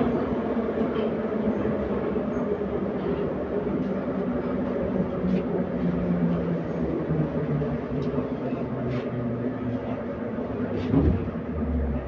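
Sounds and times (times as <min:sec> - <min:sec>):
metro train rumbling in tunnel: 0:00.0 - 0:12.0.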